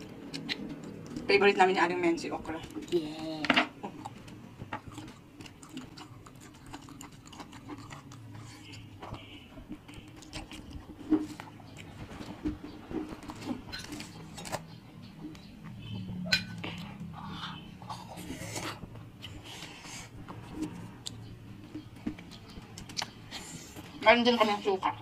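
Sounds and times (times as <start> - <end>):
chewing: 0.0 - 1.3, 2.4 - 24.0.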